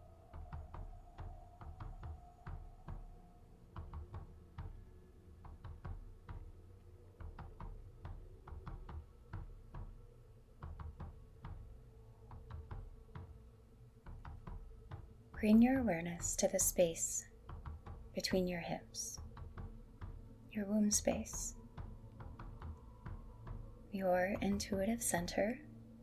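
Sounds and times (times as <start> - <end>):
faint steady drone: 0.0 - 26.0
soft knocks and clicks: 0.2 - 26.0.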